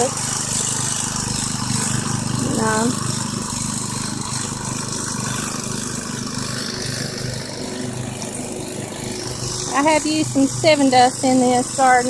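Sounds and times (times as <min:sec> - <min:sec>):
garden tiller engine running: 0:00.0 - 0:12.0.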